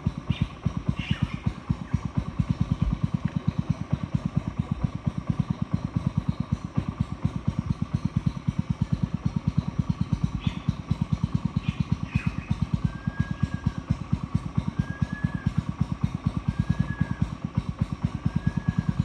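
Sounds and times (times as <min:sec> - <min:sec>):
small boat engine putt-putting: 0:00.0 - 0:19.0.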